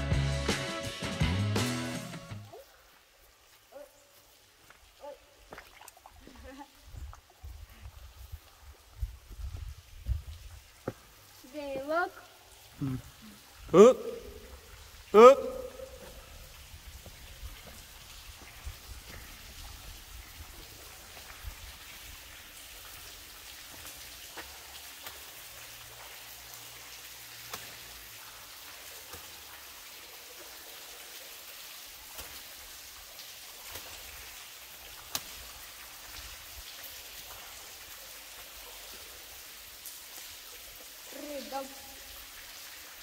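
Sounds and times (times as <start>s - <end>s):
water drips hitting: 2.4s - 7.4s, 8.4s - 43.0s.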